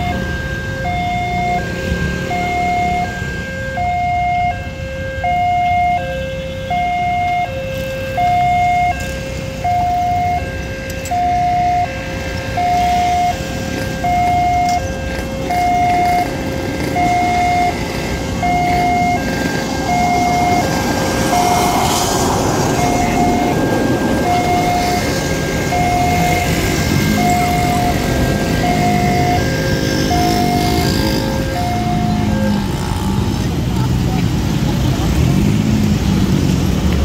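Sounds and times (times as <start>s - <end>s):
level crossing alarm two-tone: 0.0s - 33.2s.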